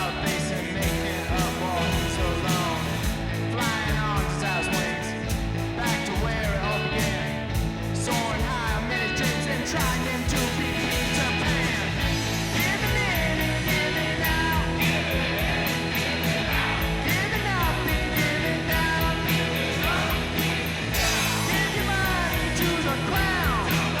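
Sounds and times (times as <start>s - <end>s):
person singing: 0.0s - 7.4s, 8.0s - 24.0s
guitar: 0.0s - 24.0s
steady drum beat: 0.0s - 24.0s.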